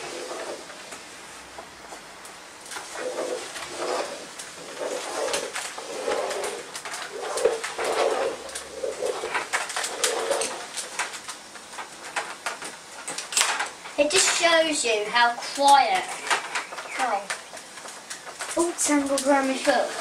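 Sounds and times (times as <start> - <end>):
steam mop running: 0.0 - 20.0.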